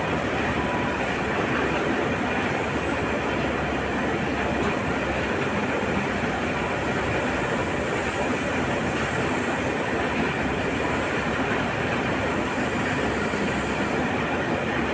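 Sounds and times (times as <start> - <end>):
heavy machinery working: 0.0 - 14.9.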